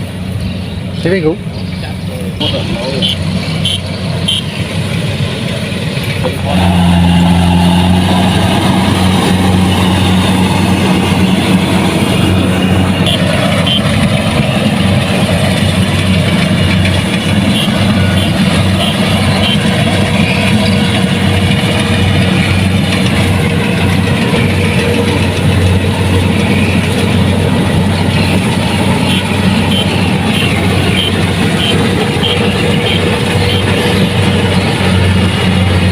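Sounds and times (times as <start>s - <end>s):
combine harvester running: 0.0s - 35.9s.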